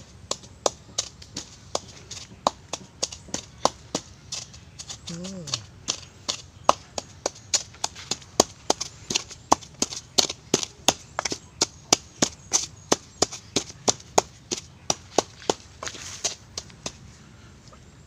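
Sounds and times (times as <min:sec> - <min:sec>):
wooden pestle pounding in mortar: 0:00.2 - 0:15.7.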